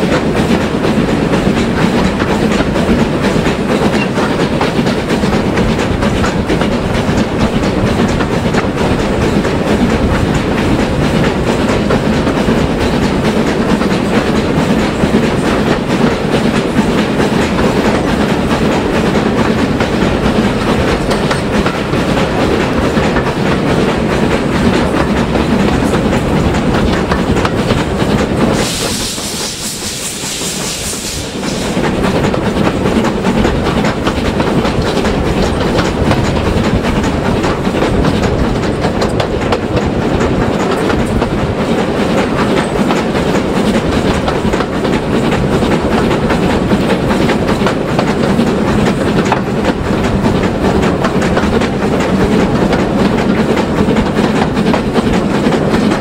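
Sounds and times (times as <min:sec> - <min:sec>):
train wheels clicking over rail joints: 0:00.0 - 0:56.0.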